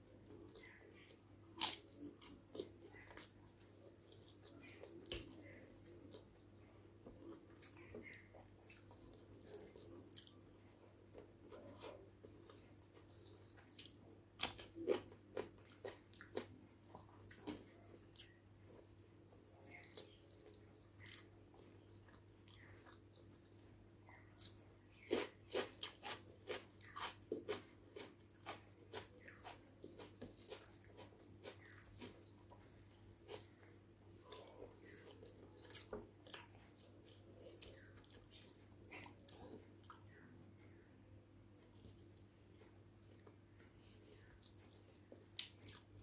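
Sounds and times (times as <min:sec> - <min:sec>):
faint low hum: 0:00.0 - 0:46.0
person chewing food: 0:00.2 - 0:40.9, 0:41.5 - 0:46.0.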